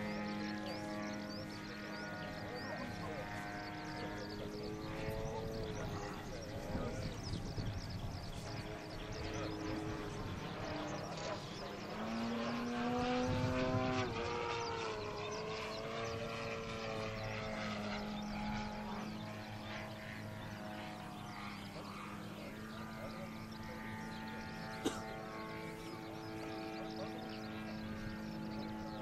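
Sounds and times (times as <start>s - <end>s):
model plane engine running: 0.0s - 29.0s.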